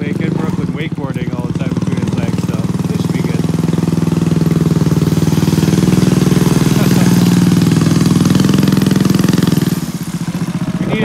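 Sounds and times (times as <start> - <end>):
tracked vehicle engine running: 0.0 - 11.0.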